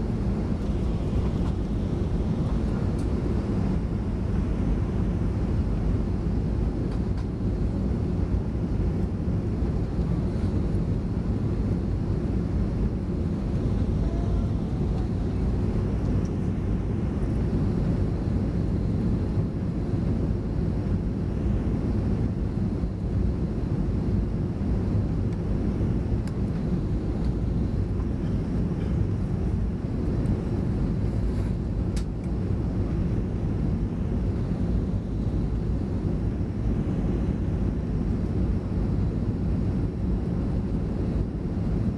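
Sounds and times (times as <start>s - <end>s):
airflow over fuselage: 0.0s - 41.9s
jet engine rumble in cabin: 0.0s - 41.9s.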